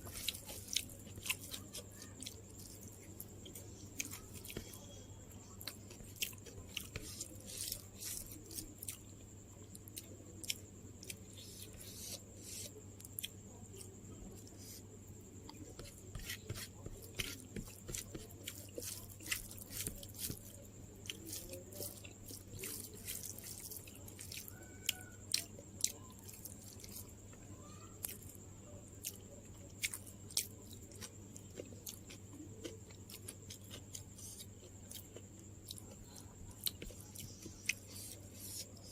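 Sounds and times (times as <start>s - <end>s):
person chewing and crunching: 0.0s - 4.8s, 5.4s - 13.9s, 15.5s - 27.1s, 29.0s - 38.9s.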